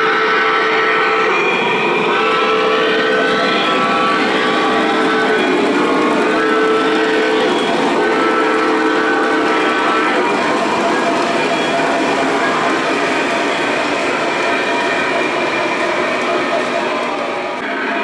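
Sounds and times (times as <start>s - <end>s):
model train running on track: 0.0s - 18.0s
model train whistle blasts: 2.1s - 18.0s.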